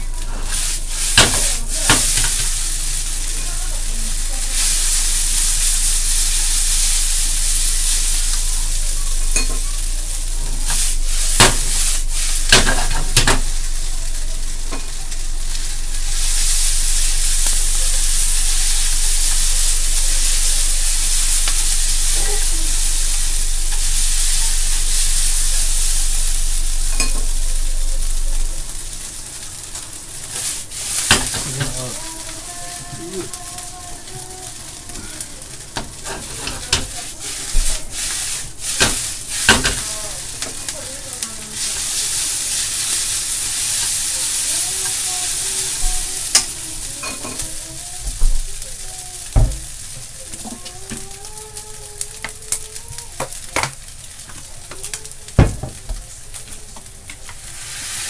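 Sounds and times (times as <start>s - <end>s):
food sizzling in frying pan: 0.0s - 58.0s.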